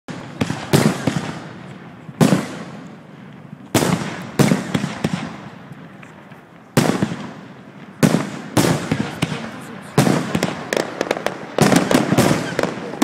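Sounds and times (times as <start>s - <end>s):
fireworks bangs with crackle: 0.1s - 13.0s.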